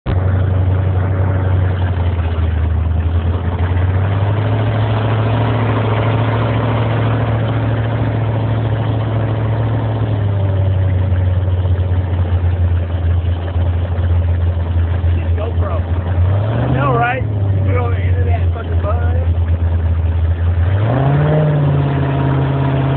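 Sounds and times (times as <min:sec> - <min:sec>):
boat engine drone: 0:00.0 - 0:22.9
wind: 0:00.0 - 0:22.9
water rushing: 0:00.1 - 0:22.9.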